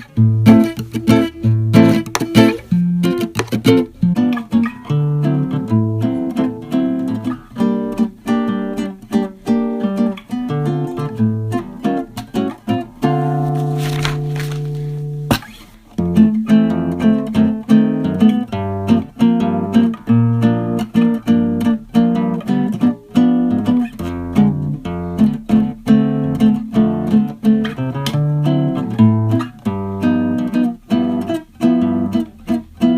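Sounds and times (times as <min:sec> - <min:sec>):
guitar plucking quick notes: 0:00.0 - 0:32.9.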